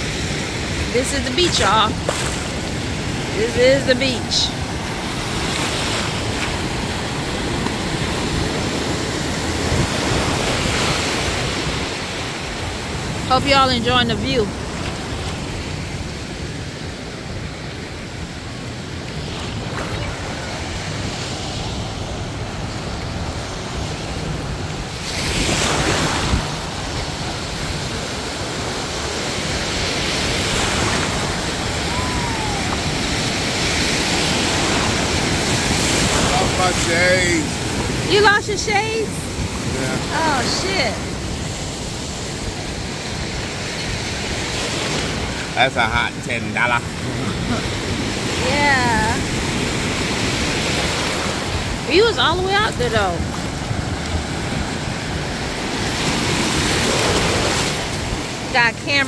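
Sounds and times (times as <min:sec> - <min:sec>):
ocean surf breaking: 0:00.0 - 0:59.0
wave crashing: 0:00.0 - 0:59.0.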